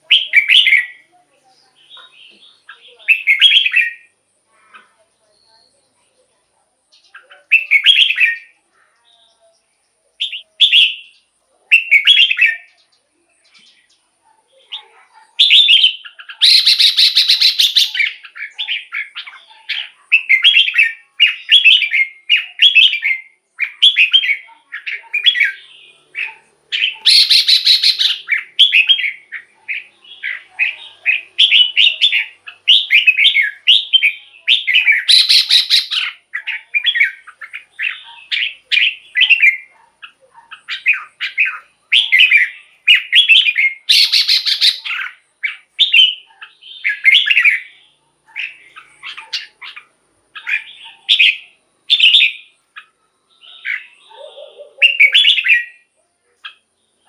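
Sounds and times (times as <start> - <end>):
bulbul singing: 0.0 - 4.2, 6.9 - 57.0.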